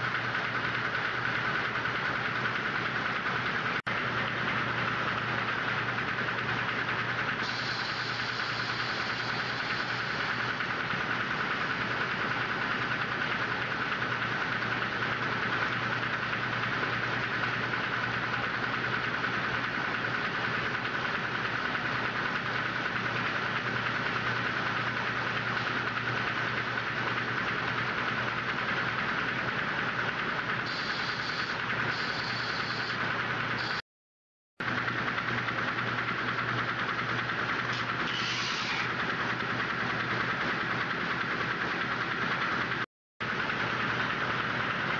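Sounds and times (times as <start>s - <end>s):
factory machinery drone: 0.0s - 33.8s, 34.6s - 44.9s.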